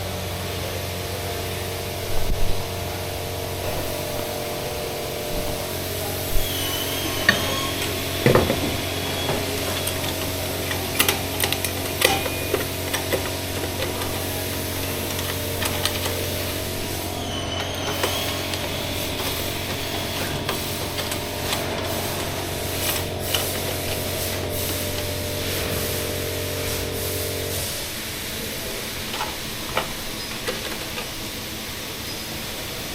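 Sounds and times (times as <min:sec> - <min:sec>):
electric hum of machine: 0:00.0 - 0:32.9.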